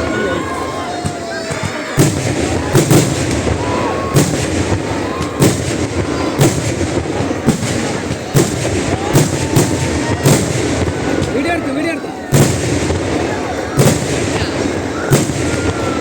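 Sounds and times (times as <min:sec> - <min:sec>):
fireworks bangs: 0:00.0 - 0:16.0
fireworks rumble and crackle: 0:00.0 - 0:16.0.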